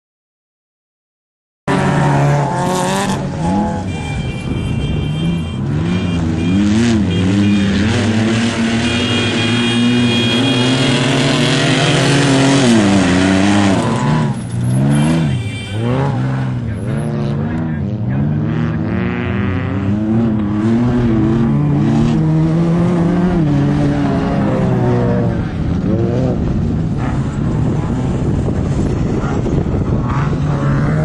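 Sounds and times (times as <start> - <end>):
race vehicle engine revving: 5.1 - 31.0.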